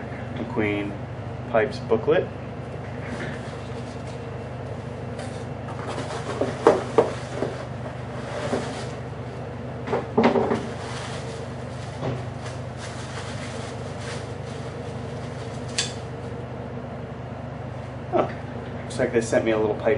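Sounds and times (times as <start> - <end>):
low room hum: 0.0 - 19.9.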